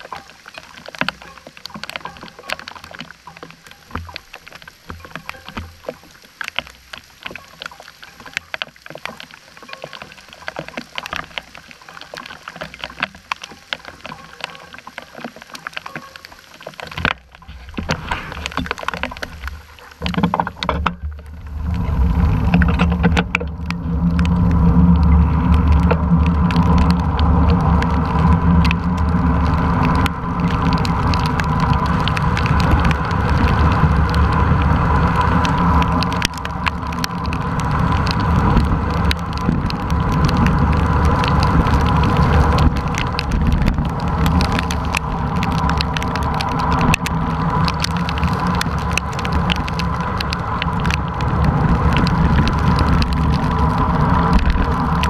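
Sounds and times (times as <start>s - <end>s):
faint rain hiss: 0.0s - 55.0s
raindrops ticking on camera housing: 0.0s - 55.0s
wind and wet-road rumble: 0.0s - 55.0s.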